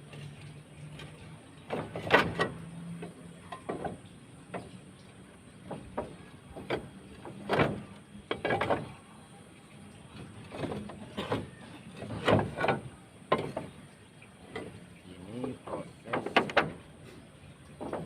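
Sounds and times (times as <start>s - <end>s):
roof tiles clacking: 0.0s - 9.0s, 10.1s - 17.0s.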